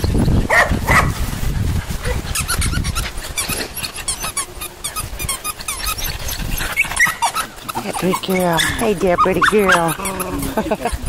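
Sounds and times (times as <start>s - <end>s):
puppies whining and yipping: 0.0s - 1.2s, 1.8s - 11.0s
scuffling rumble: 0.0s - 11.0s.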